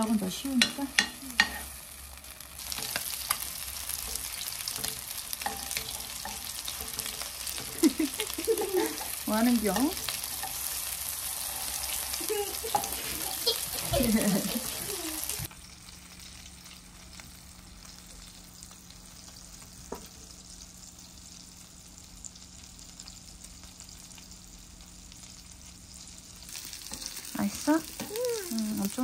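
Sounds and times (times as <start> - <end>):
meat patties sizzling in oil: 0.0 - 29.0.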